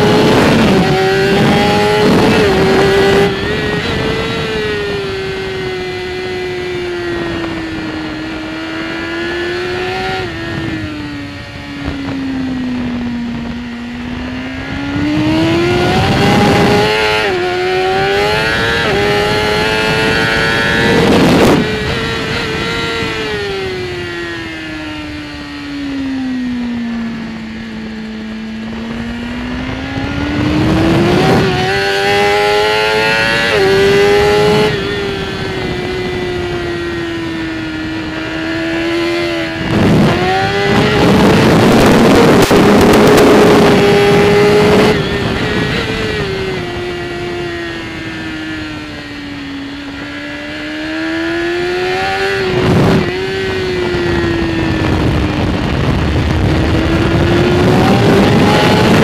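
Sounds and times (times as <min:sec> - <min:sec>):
motorcycle engine revving: 0:00.0 - 0:59.0
wind rush on microphone: 0:00.0 - 0:59.0.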